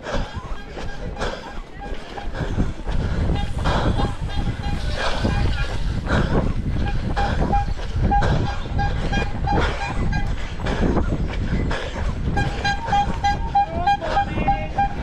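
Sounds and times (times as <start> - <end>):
person breathing: 0.0 - 13.2.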